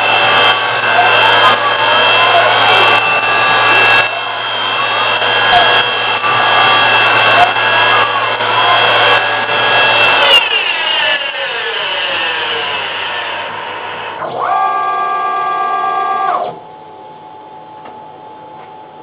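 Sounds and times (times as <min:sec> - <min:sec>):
spindle whine winding down: 0:00.0 - 0:16.6
steady machine whine: 0:00.0 - 0:19.0.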